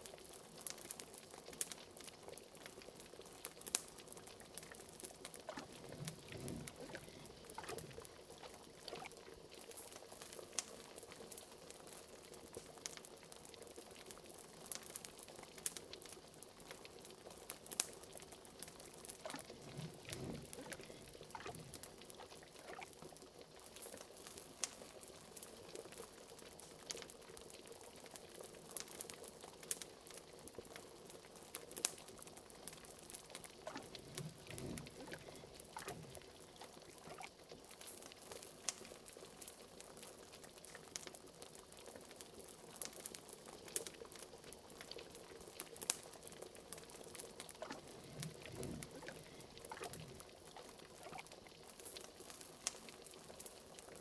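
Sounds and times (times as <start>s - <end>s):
fireplace crackle: 0.0s - 54.0s
liquid bubbling at a boil: 0.0s - 54.0s.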